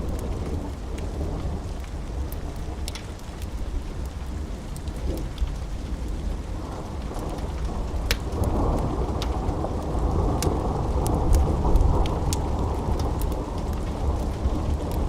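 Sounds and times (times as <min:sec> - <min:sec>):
steady rain: 0:00.0 - 0:15.0
wood fire popping: 0:01.8 - 0:06.4, 0:07.1 - 0:15.0.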